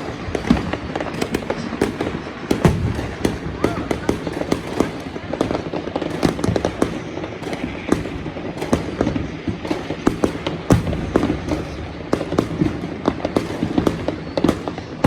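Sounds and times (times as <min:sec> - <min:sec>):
continuous crackling: 0:00.0 - 0:15.0
fireworks bangs and pops: 0:00.0 - 0:15.0.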